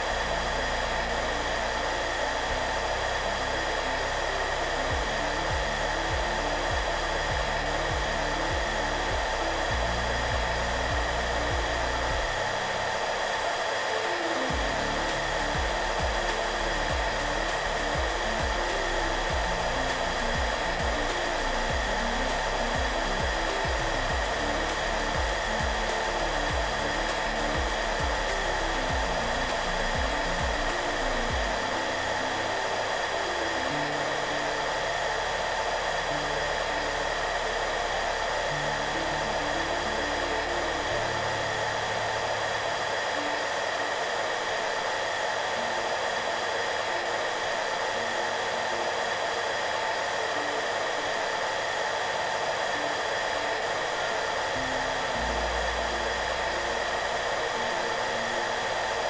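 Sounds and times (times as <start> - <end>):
hairdryer blowing: 0.0 - 59.0
soft background music: 0.0 - 59.0.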